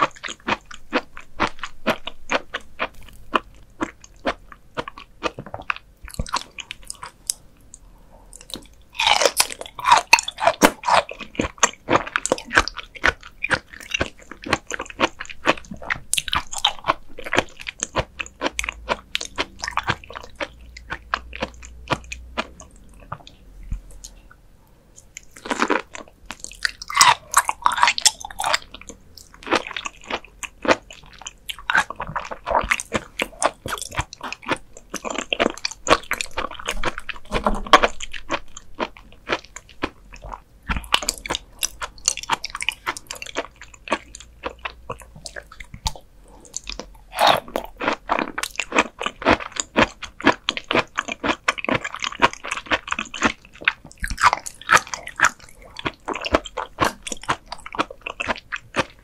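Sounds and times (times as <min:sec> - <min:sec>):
person chewing raw liver: 0:00.0 - 0:59.0.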